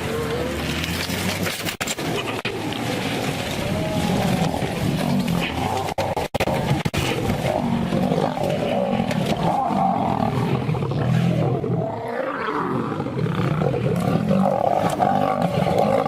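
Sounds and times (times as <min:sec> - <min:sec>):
lions roaring: 0:00.0 - 0:16.0.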